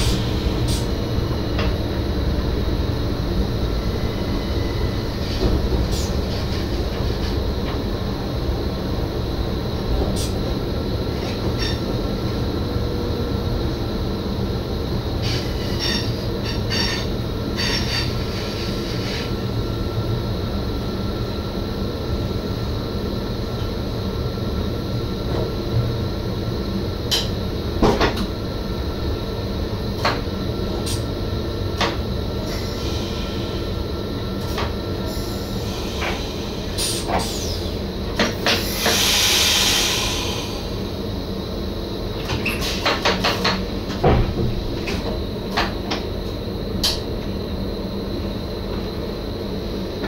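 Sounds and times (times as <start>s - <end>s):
electric train running rumble: 0.0s - 50.0s.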